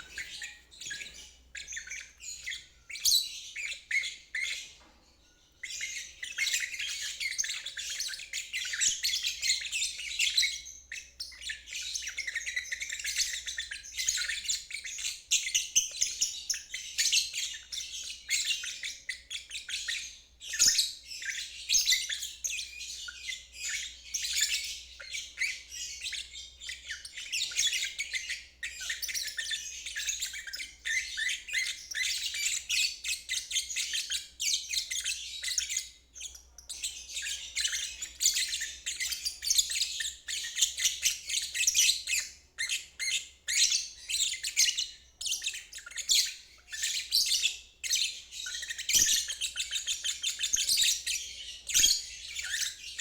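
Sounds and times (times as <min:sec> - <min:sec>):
lovebird chattering high chirps: 0:00.0 - 0:04.6, 0:05.6 - 0:53.0.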